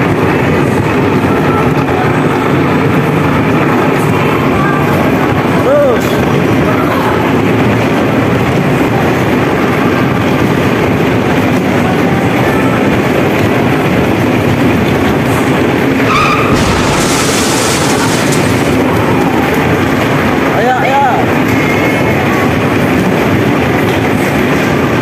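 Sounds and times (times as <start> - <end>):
bumper cars rolling: 0.0 - 25.0.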